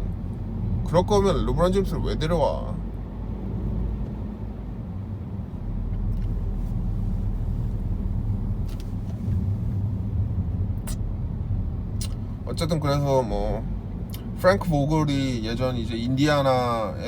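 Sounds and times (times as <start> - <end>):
low vehicle rumble: 0.0 - 17.0.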